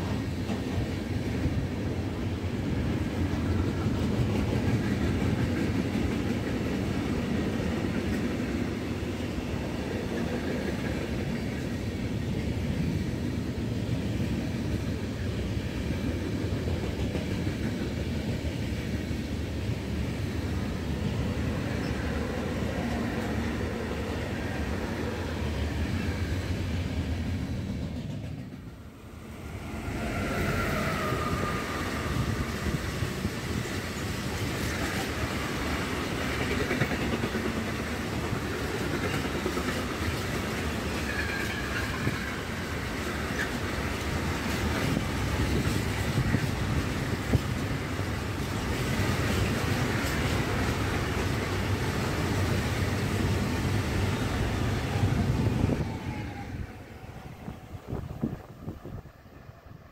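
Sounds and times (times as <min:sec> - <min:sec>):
high-speed train passing: 0:00.0 - 0:59.9.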